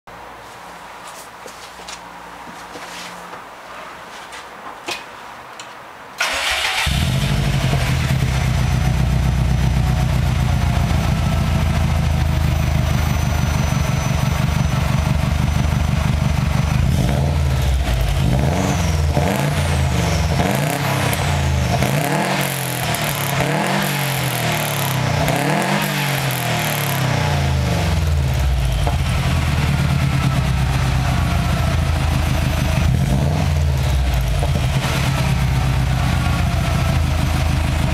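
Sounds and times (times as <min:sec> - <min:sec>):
car engine idling and revving: 0:06.2 - 0:37.9.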